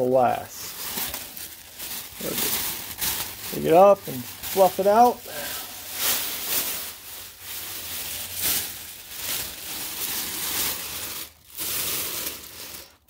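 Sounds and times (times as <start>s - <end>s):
paper rustling and crinkling: 0.6s - 13.0s.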